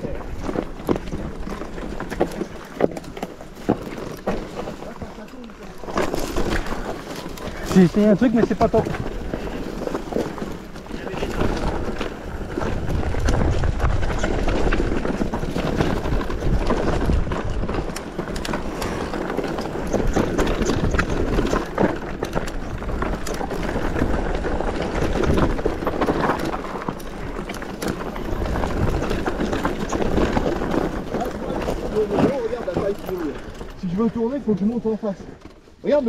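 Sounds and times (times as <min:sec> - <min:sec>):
bike rattling over bumps: 0:00.0 - 0:36.0
tyres on loose stones: 0:00.0 - 0:36.0.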